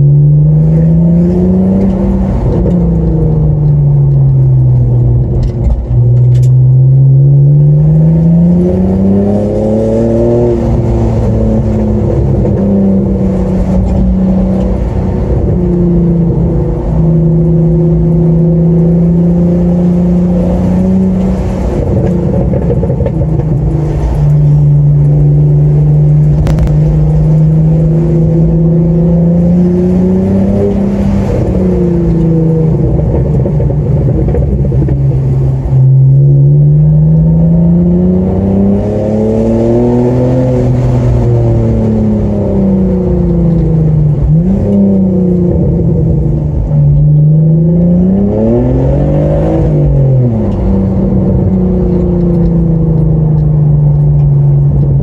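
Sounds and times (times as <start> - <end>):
car engine through loud exhaust: 0.0 - 55.0.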